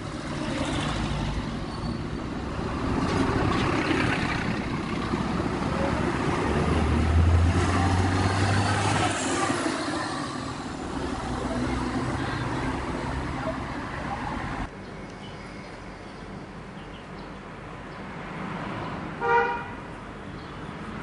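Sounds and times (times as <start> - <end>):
passing vehicle engine rumble: 0.0 - 17.0
street traffic: 0.0 - 21.0.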